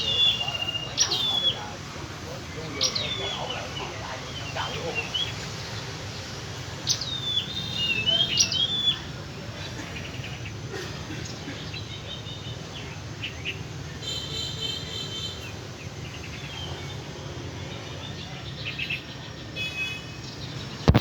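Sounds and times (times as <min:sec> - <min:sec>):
small birds chirping: 0:00.0 - 0:21.0
trilled bird calls: 0:00.0 - 0:21.0.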